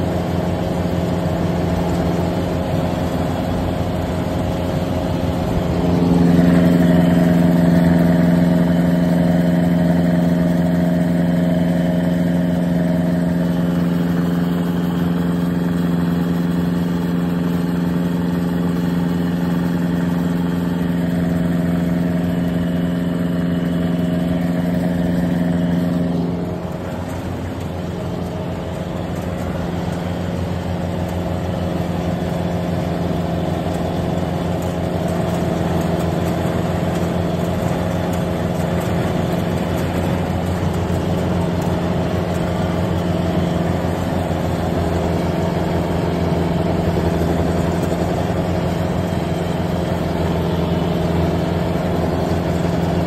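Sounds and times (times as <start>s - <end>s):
combine harvester engine humming: 0.0s - 53.0s.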